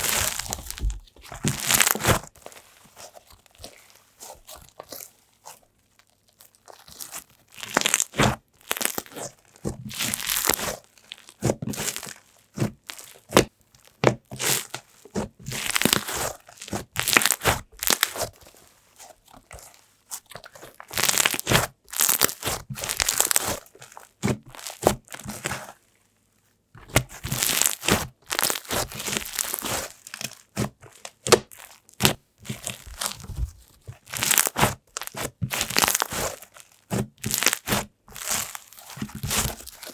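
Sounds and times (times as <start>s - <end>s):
slime squished by hand: 0.0s - 2.4s, 6.4s - 18.5s, 19.4s - 25.7s, 26.8s - 39.9s.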